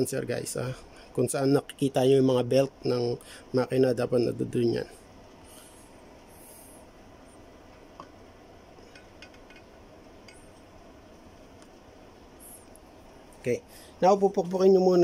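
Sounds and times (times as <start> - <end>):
low workshop background noise: 0.0 - 15.0.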